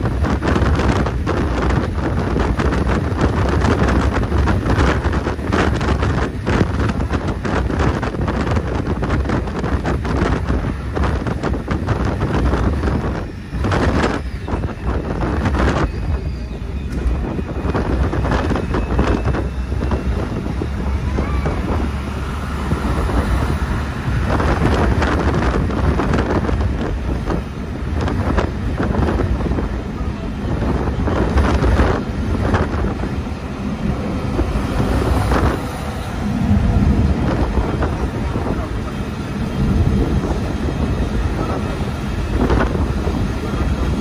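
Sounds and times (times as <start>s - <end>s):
car driving at speed: 0.0s - 44.0s
wind buffeting microphone: 0.0s - 44.0s.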